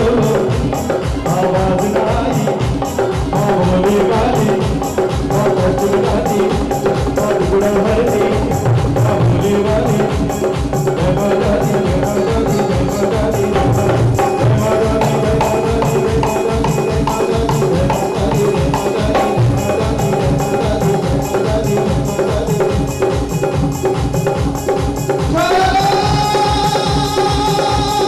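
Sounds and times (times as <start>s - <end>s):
devotional music with percussion: 0.0s - 28.0s.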